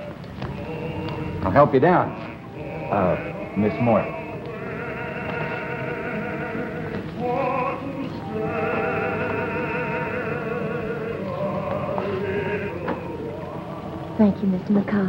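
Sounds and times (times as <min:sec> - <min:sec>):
sustained high melody with vibrato: 0:00.0 - 0:15.0.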